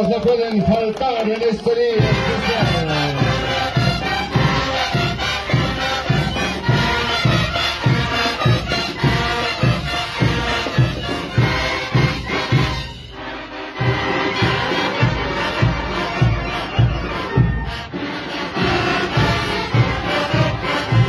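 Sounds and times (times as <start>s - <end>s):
brass band playing with drums: 0.0s - 21.0s.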